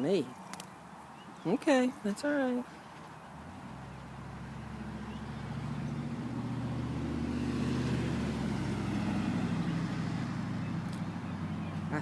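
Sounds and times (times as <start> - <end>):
passing vehicle engine hum: 2.0 - 12.0.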